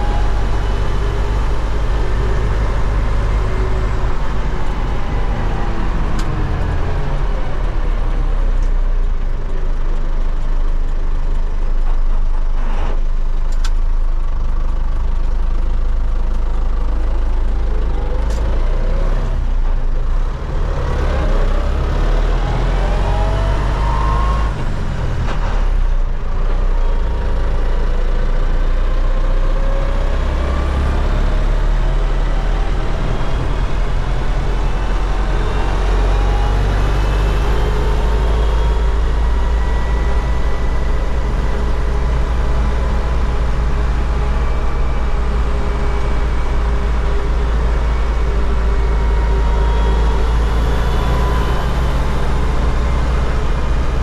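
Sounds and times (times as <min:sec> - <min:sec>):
engine whine: 0:00.0 - 0:54.0
tractor diesel engine running: 0:00.0 - 0:54.0.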